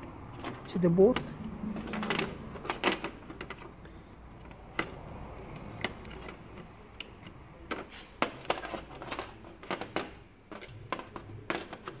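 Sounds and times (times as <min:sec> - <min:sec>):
plastic connectors clicking on metal: 0:00.0 - 0:12.0.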